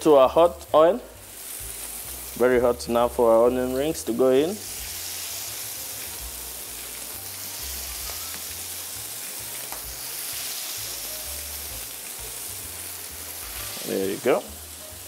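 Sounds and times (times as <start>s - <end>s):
onion rings sizzling in oil: 0.0s - 15.0s.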